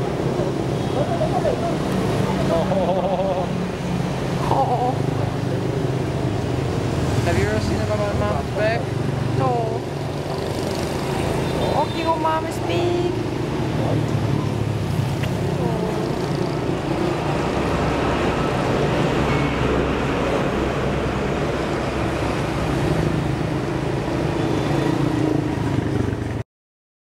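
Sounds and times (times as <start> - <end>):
street traffic rumble: 0.0 - 26.4.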